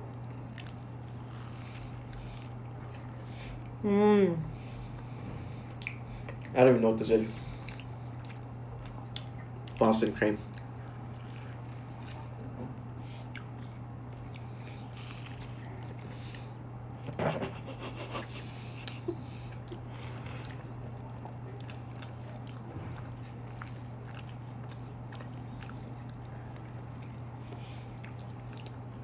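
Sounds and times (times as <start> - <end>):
person chewing crunchy pastry: 0.0 - 3.8, 4.5 - 29.0
steady low hum: 0.0 - 29.0.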